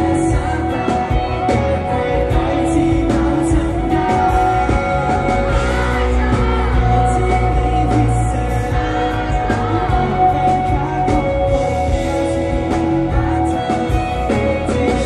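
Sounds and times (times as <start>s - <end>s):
bass guitar: 0.0s - 15.0s
electric guitar: 0.0s - 15.0s
man singing: 0.0s - 15.0s.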